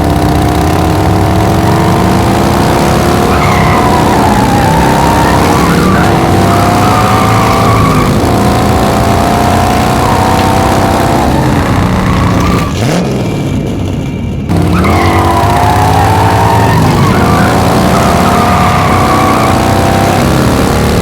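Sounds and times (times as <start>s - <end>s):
racing car engine accelerating: 0.0s - 21.0s.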